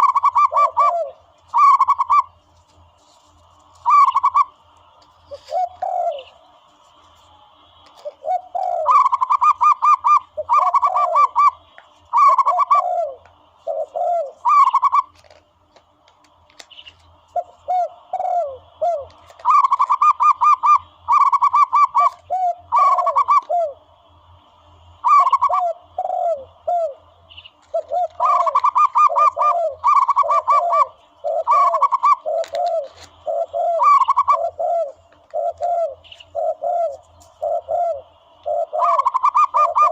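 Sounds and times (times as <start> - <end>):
doves cooing: 0.0 - 2.4, 3.5 - 6.9, 7.7 - 16.3, 17.2 - 24.0, 25.0 - 39.9.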